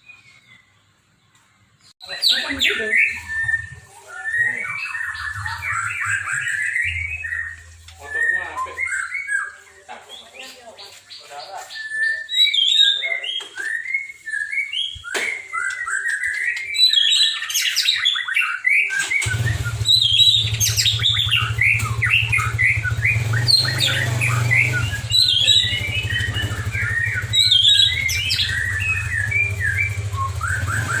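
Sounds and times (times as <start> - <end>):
songbird singing whistled notes: 0.0 - 31.0.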